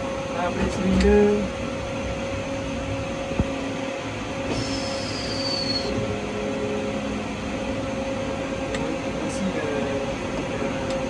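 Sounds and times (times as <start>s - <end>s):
locomotive cab mechanical hum: 0.0s - 11.0s.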